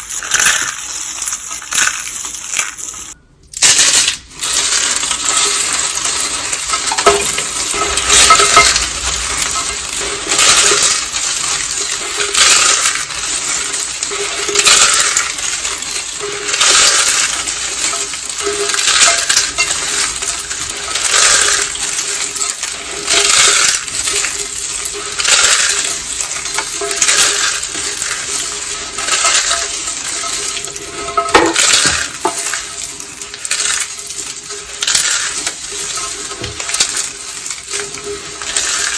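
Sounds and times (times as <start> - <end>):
soap being crushed crunching: 1.6 - 38.9.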